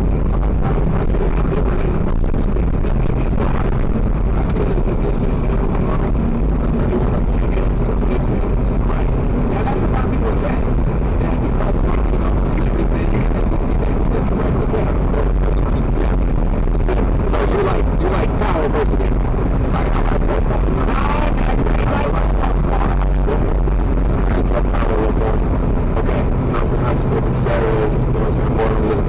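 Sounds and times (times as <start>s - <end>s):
road and engine noise in car: 0.0s - 29.0s.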